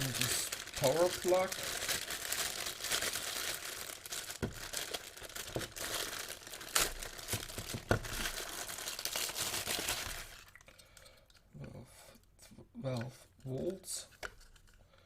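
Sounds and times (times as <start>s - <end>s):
packaging crinkling and rustling: 0.0s - 10.7s, 13.3s - 14.8s.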